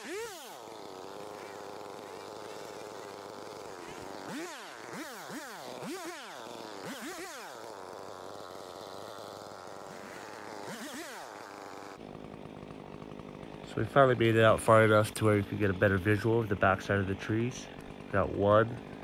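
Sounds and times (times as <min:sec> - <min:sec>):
chainsaw idling and revving: 0:00.0 - 0:19.0.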